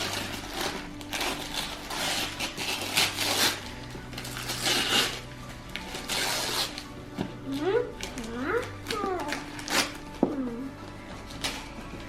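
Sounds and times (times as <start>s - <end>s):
wrapping paper tearing and crinkling: 0.0s - 12.0s.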